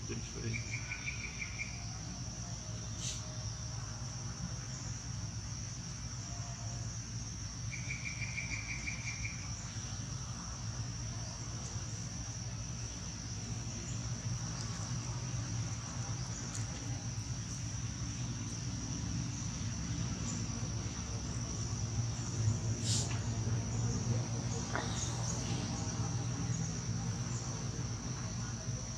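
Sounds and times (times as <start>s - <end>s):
insects droning: 0.0s - 28.9s
rapid insect trill: 0.0s - 28.9s.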